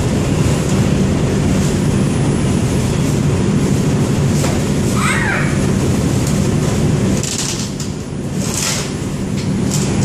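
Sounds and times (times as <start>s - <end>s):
subway wheels rumbling on rail: 0.0s - 10.0s.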